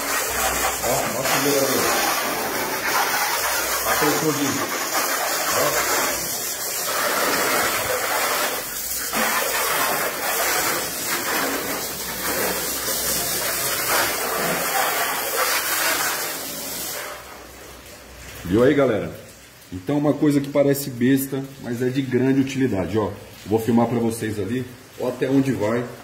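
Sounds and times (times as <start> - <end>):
water jet spraying on car: 0.0 - 26.0.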